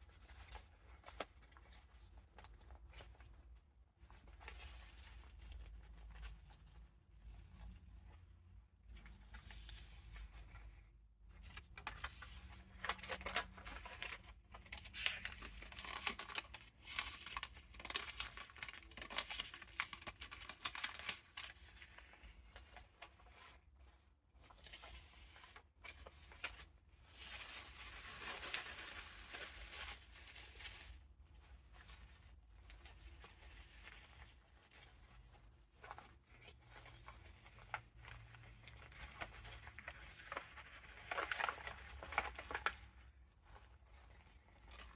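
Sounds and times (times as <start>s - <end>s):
paper pages rustling: 0.0s - 8.2s, 8.8s - 44.9s.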